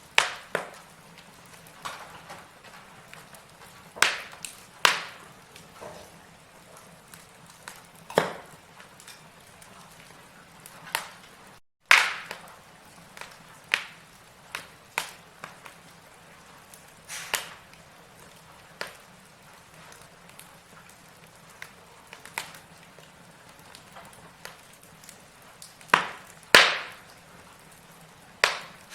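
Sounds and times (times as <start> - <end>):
logs crackling in fireplace: 0.0 - 28.9.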